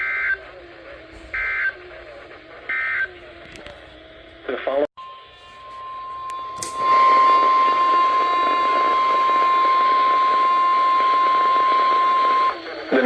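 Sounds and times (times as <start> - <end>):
radio hiss: 0.0 - 4.9, 6.8 - 13.0
steady alarm tone: 0.0 - 13.0.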